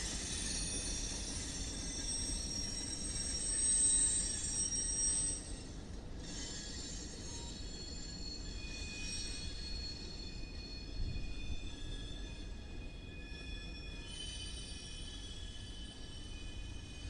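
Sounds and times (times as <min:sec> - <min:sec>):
steel wheels squealing on rails: 0:00.0 - 0:17.0.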